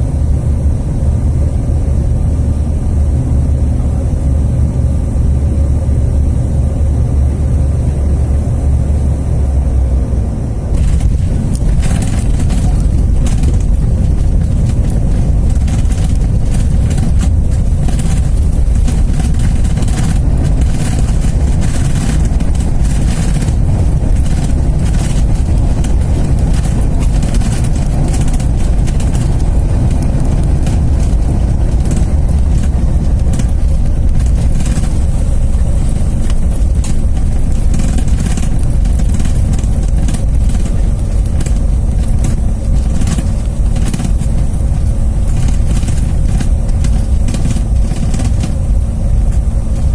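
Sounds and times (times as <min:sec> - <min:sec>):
jet cabin engine rumble: 0:00.0 - 0:49.9.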